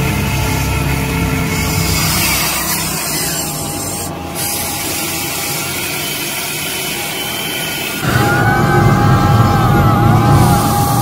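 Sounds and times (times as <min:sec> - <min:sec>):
toy motors and gears whirring: 0:00.0 - 0:11.0.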